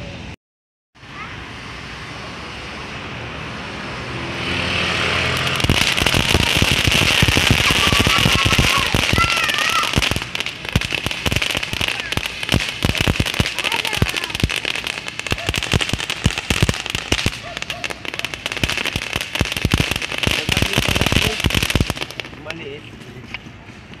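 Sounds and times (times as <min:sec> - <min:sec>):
firework fountain hissing: 0:01.0 - 0:24.0
firework crackling: 0:04.0 - 0:24.0.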